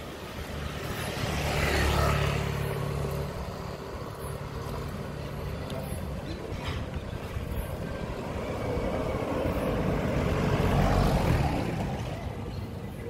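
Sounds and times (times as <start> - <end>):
vehicle passing by: 0.0 - 6.2, 6.9 - 13.0.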